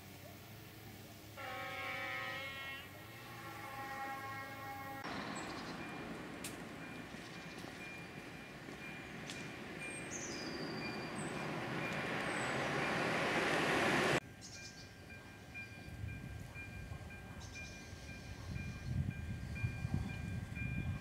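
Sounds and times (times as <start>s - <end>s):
electric train approaching: 0.5s - 21.0s.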